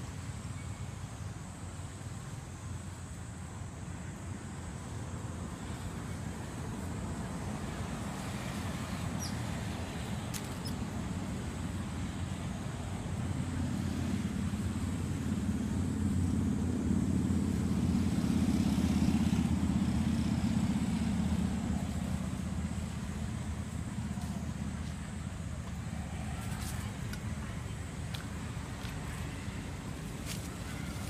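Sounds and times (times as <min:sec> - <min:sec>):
passing vehicle engine rumble: 0:00.0 - 0:31.0.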